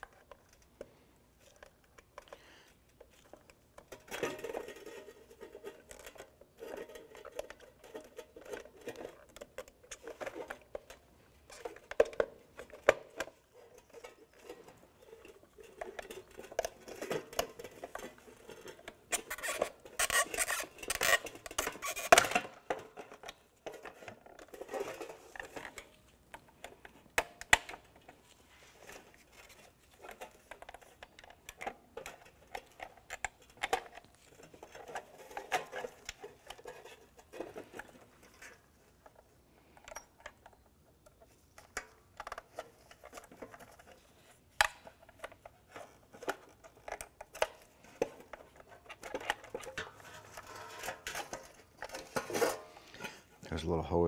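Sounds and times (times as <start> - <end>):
plastic clips clicking and scraping: 0.0 - 53.4.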